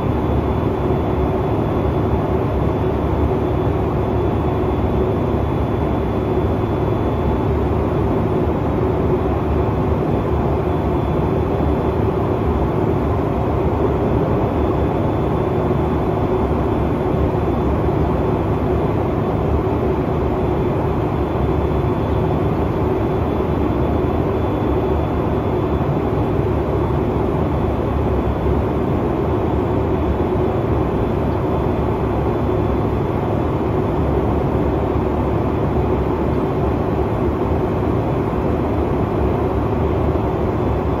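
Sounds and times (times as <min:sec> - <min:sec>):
airliner cabin engine drone: 0:00.0 - 0:41.0
faint high whine: 0:00.0 - 0:41.0.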